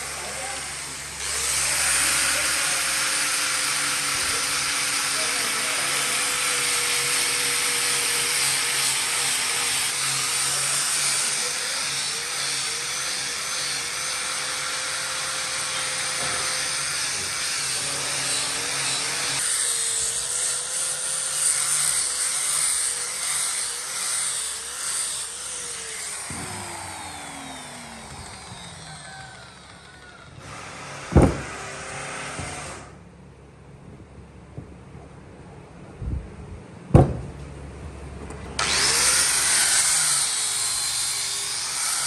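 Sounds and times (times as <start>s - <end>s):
power tool cutting: 0.0s - 33.0s, 38.6s - 42.0s.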